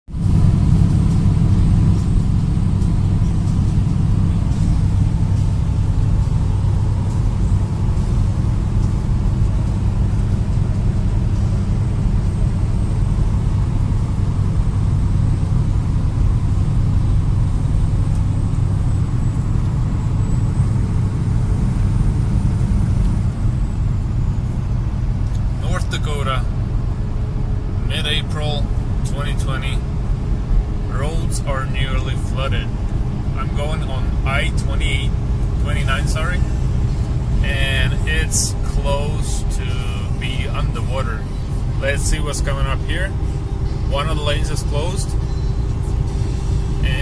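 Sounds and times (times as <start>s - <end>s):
truck engine drone and road noise: 0.1s - 47.0s.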